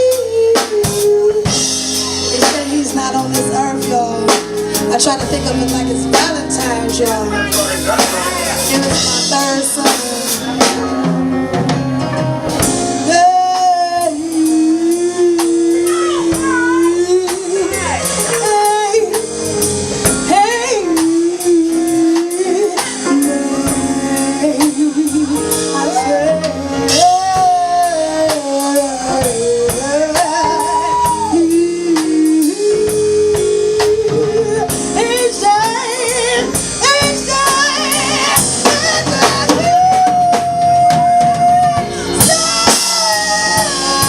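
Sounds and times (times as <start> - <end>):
woman singing with vibrato: 0.0 - 10.8, 13.0 - 19.4, 20.2 - 44.0
band playing soul blues: 0.0 - 44.0
steady drum beat: 0.0 - 44.0.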